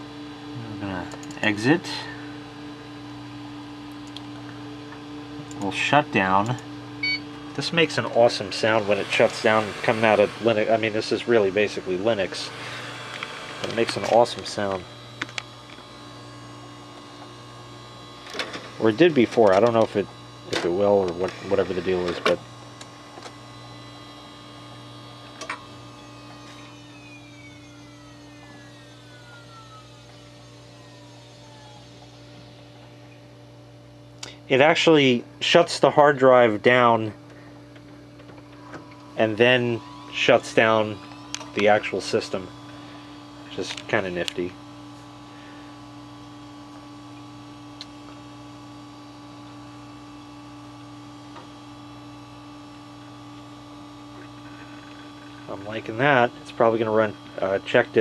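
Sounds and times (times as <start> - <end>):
hard drive whine spinning down: 0.0 - 58.0
steady hum: 0.0 - 58.0.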